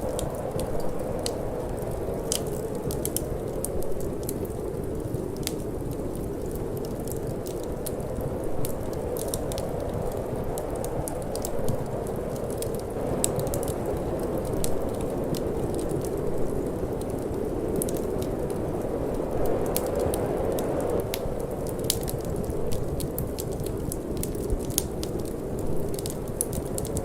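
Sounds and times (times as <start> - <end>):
rushing wind: 0.0 - 27.0
wood fire crackling and popping: 0.0 - 27.0.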